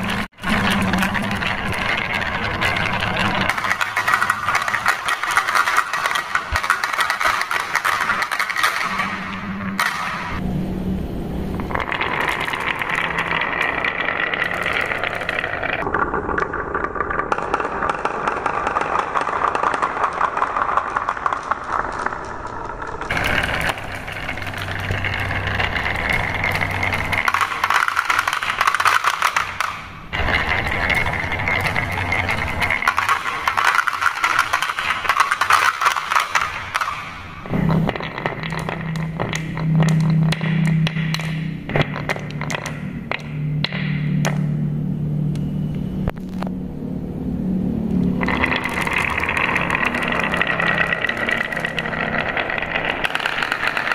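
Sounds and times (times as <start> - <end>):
marbles rattling down wooden tracks: 0.0 - 10.4, 11.5 - 44.6, 48.0 - 53.9.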